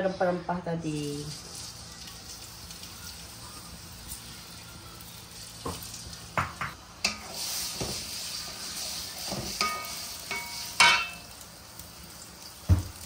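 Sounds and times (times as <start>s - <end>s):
aromatics sizzling in oil: 0.0s - 13.0s.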